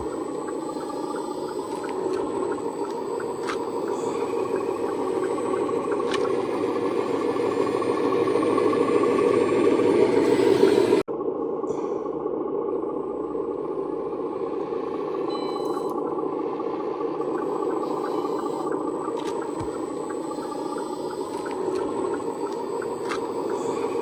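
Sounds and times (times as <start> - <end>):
hydraulic pump and motors whirring: 0.0 - 24.0.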